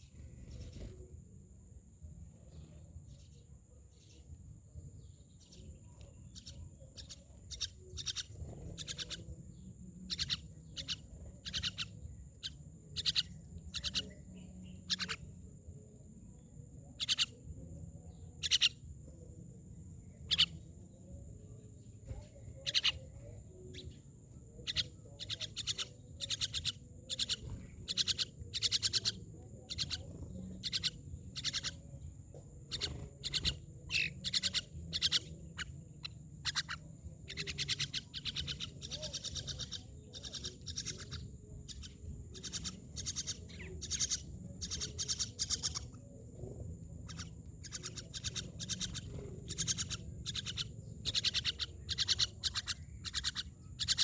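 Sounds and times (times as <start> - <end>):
myna birds chirping and squawking: 0.0 - 1.1, 2.4 - 54.0.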